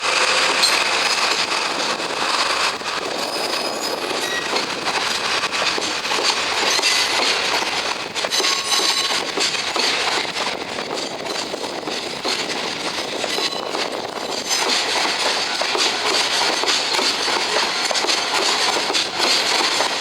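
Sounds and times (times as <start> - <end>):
train wheels on rail: 0.0 - 20.0.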